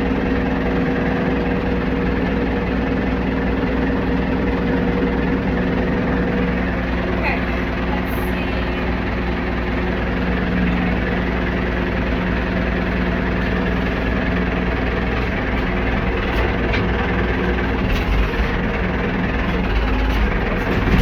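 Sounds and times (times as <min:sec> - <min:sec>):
backhoe engine idling: 0:00.0 - 0:21.0.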